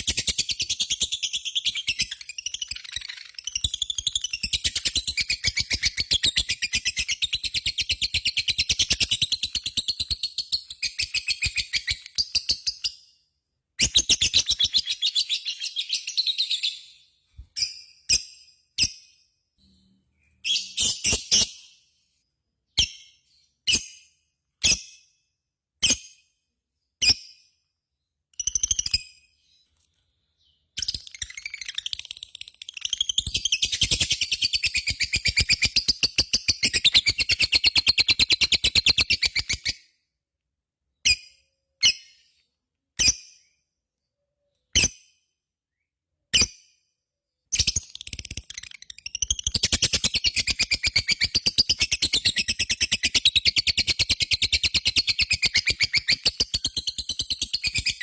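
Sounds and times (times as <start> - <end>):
lovebird chirps: 0.0 - 13.2, 13.8 - 25.2, 25.8 - 39.8, 46.3 - 58.0.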